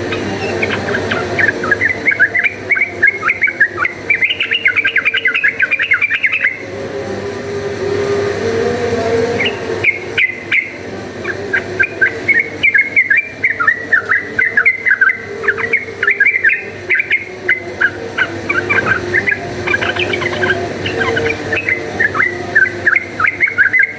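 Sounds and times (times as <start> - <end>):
bulbul singing whistled notes: 0.0 - 6.6, 9.4 - 23.9.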